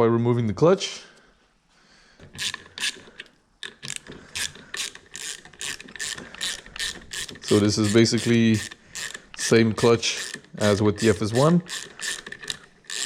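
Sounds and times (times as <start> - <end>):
ratchet wrench clicking: 2.4 - 13.0.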